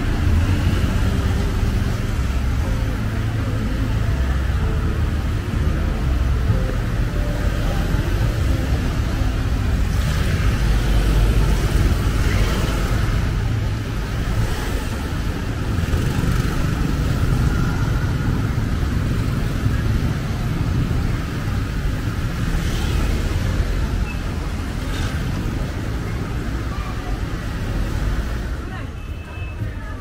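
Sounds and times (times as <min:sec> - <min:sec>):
cars and motorbikes passing: 0:00.0 - 0:30.0
low traffic rumble: 0:00.0 - 0:30.0.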